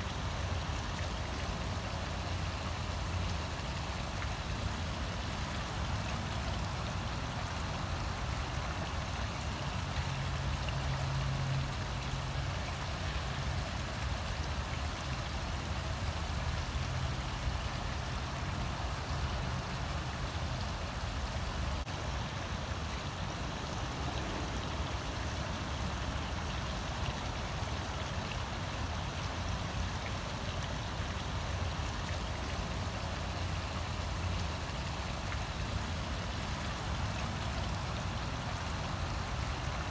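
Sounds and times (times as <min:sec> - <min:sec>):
waterfall splashing into pond: 0:00.0 - 0:39.9.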